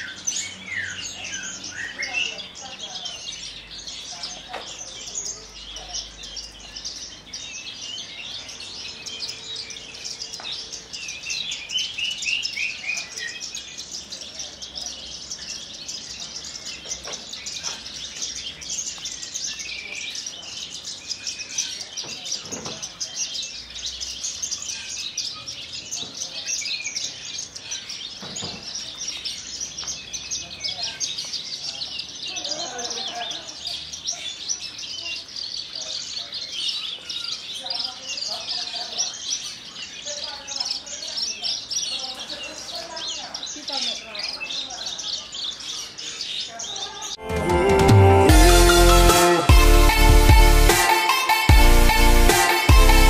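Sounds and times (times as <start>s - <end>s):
bird singing chirps and trills: 0.0s - 53.0s.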